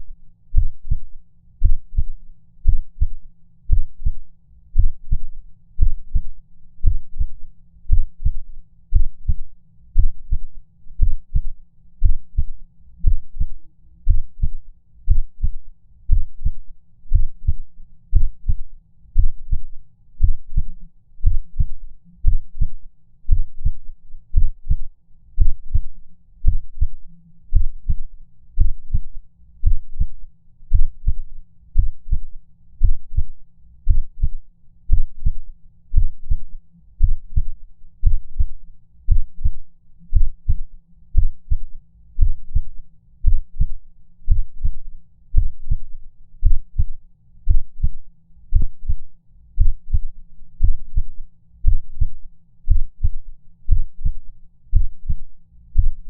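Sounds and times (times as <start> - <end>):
heartbeat thumps: 0.6 - 9.4, 10.0 - 18.6, 19.2 - 28.0, 28.6 - 40.6, 41.2 - 49.0, 49.6 - 55.2, 55.8 - 56.0.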